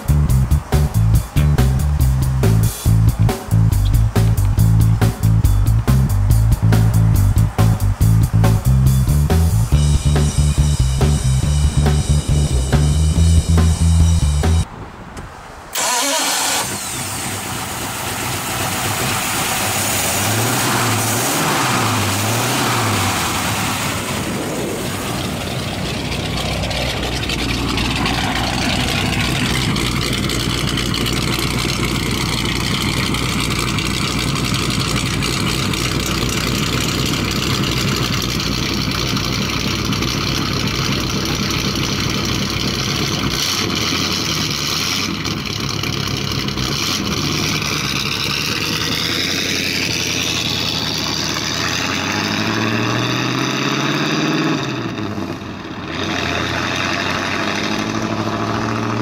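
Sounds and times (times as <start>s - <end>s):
car engine revving and idling: 0.0s - 14.7s, 15.7s - 59.0s.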